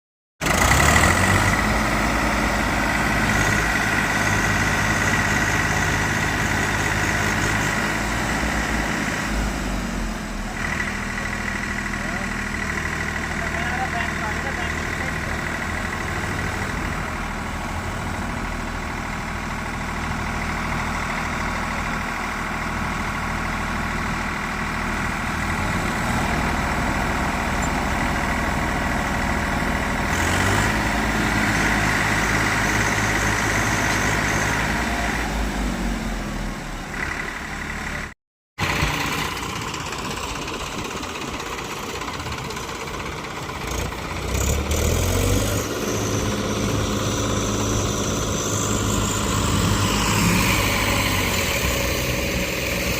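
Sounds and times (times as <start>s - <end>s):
tractor engine revving: 0.4s - 52.9s.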